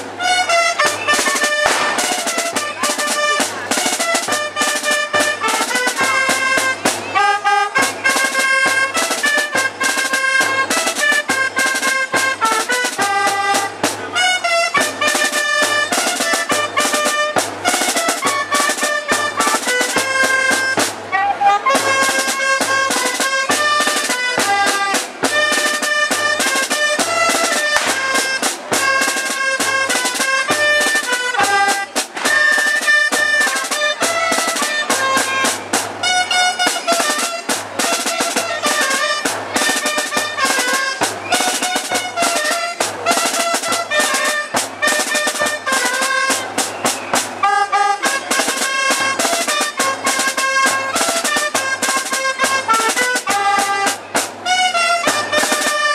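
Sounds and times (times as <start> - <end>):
shrill double-reed pipes: 0.0 - 55.9
steady drum beat: 0.0 - 55.9.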